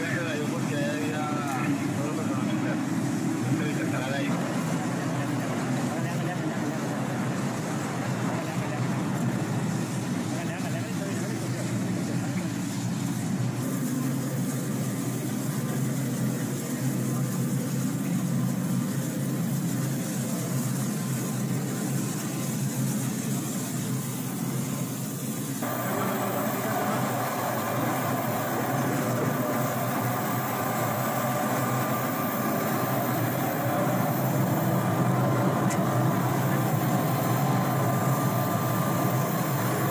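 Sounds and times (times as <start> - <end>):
engine drone: 0.0 - 39.9
high steady whine: 0.0 - 39.9.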